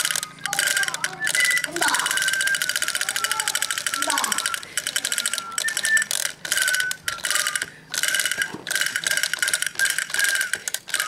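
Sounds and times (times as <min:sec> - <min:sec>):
toy drum plastic clatter: 0:00.0 - 0:11.0.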